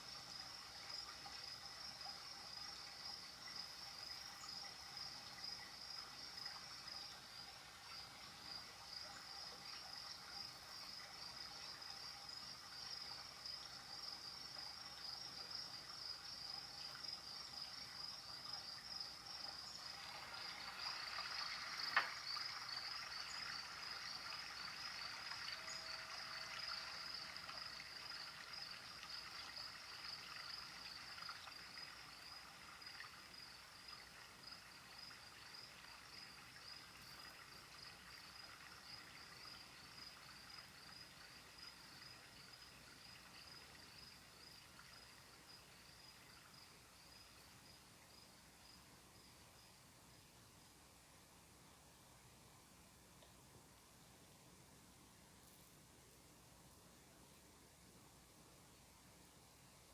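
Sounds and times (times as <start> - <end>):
crickets chirping: 0.0 - 59.9
trickle of water: 0.0 - 59.9.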